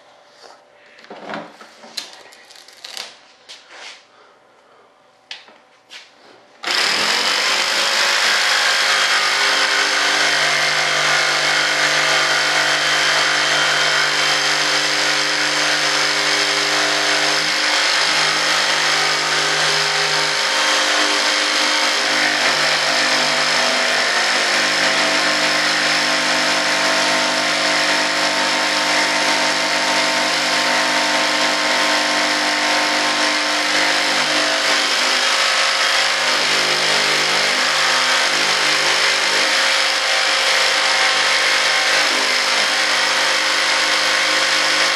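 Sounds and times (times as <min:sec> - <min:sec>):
electric jigsaw cutting: 0:06.6 - 0:44.9.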